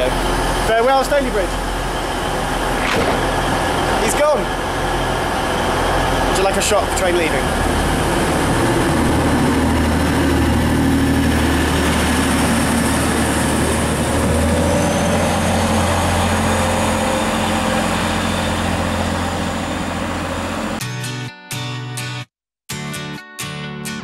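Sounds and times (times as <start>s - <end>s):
diesel train engine droning: 0.0s - 20.8s.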